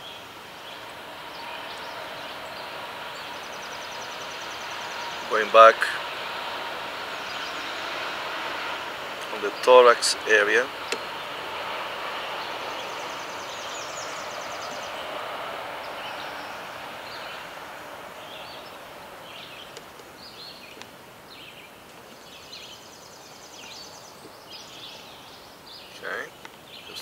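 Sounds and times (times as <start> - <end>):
broad rushing noise: 0.0 - 27.0.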